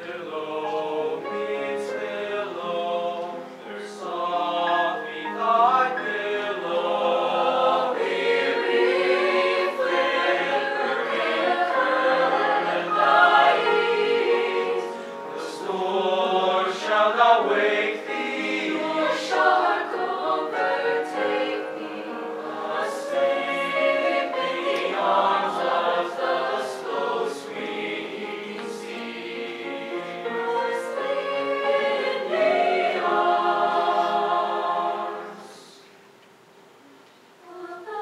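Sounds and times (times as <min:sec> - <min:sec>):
choir singing in parts: 0:00.0 - 0:35.9, 0:37.4 - 0:38.0.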